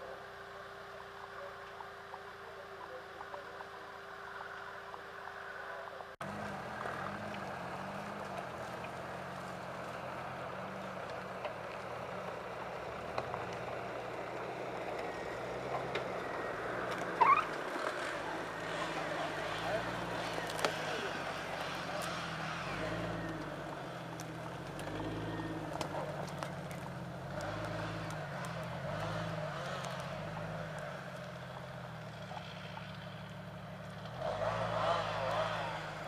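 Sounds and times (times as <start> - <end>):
engine running at low revs: 0.0 - 36.0.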